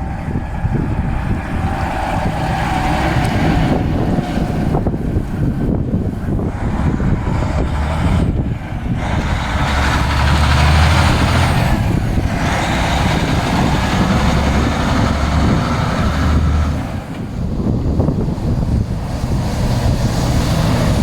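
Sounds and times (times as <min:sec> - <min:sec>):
dump truck driving past: 0:00.0 - 0:21.0
road and tyre noise: 0:00.0 - 0:21.0.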